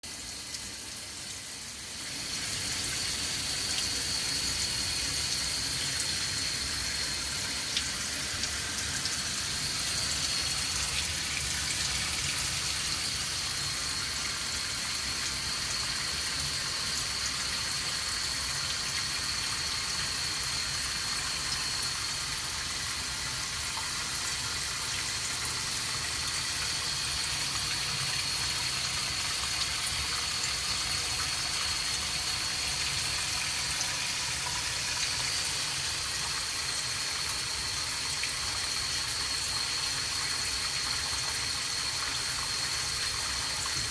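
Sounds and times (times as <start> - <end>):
water running from faucet: 0.0 - 43.9.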